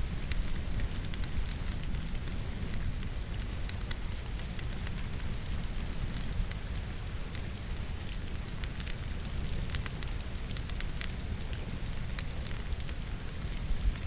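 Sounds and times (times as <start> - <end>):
rain pattering: 0.0 - 14.0
wood fire crackling and popping: 0.0 - 14.0.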